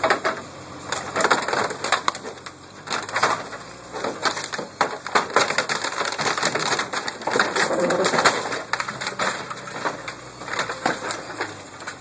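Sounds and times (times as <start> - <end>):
loader engine running: 0.0 - 12.0
metal cracking and tearing: 0.0 - 12.0.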